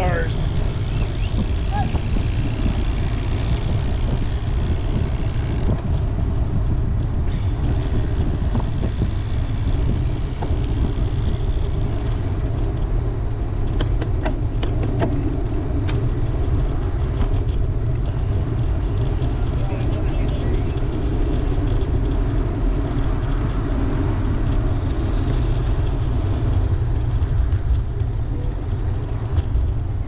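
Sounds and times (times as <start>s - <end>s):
tyre and road noise: 0.0s - 30.0s
wind buffeting microphone: 0.0s - 30.0s.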